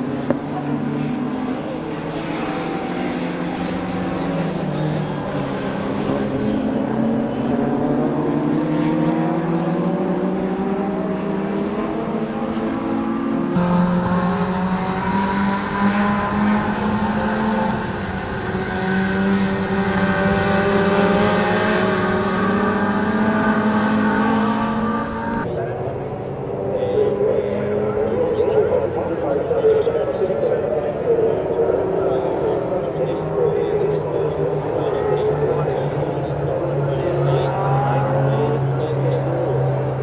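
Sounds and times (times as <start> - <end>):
race car engine revving: 0.0 - 40.0.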